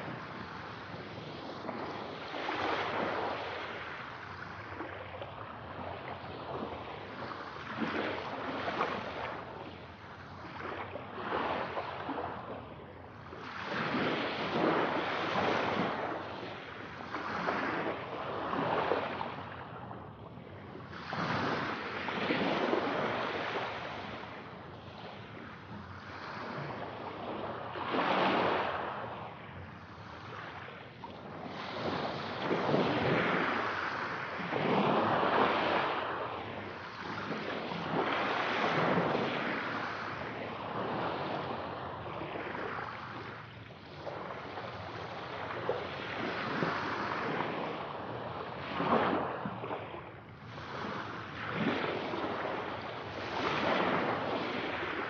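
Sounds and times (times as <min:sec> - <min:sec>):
sea waves washing in: 0:00.0 - 0:55.0.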